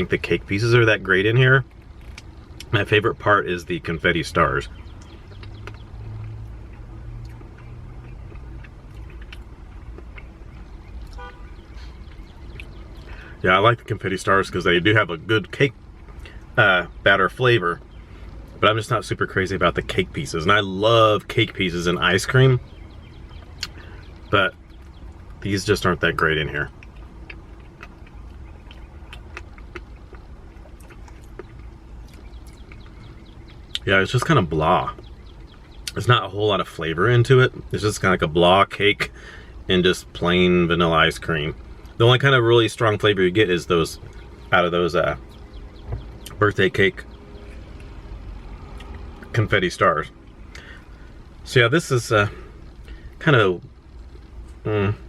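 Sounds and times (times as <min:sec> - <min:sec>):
car engine idling: 0:00.0 - 0:55.0
low background rumble: 0:00.0 - 0:55.0.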